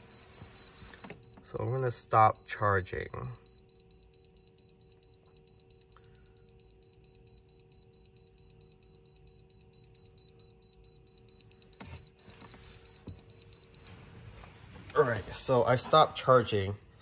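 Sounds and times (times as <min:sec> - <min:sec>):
rapid high-pitched alarm beeps: 0:00.0 - 0:14.4.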